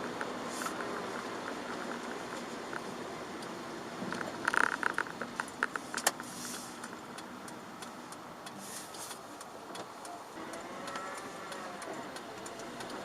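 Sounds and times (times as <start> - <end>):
car road and engine noise: 0.0 - 13.0
sharp ticks of rain: 0.0 - 13.0.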